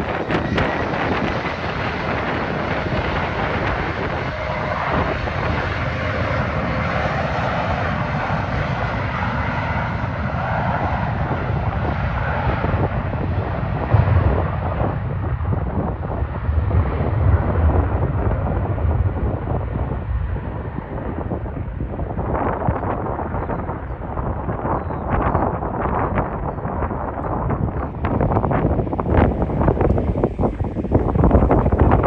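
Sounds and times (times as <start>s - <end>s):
jet engines passing: 0.0s - 24.7s, 27.9s - 32.0s
wind buffeting microphone: 0.0s - 32.0s.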